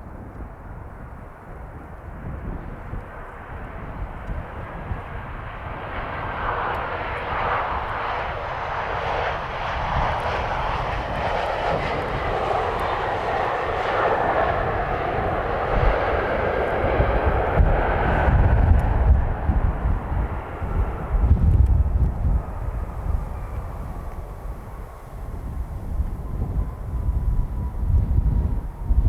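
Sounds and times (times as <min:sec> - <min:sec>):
jet engines roaring: 0:01.3 - 0:29.0.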